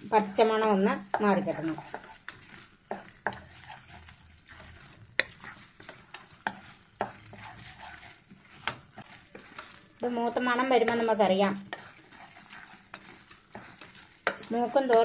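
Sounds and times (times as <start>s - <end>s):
faint sizzle of frying: 0.0s - 15.0s
wooden spatula scraping frying pan: 0.0s - 15.0s.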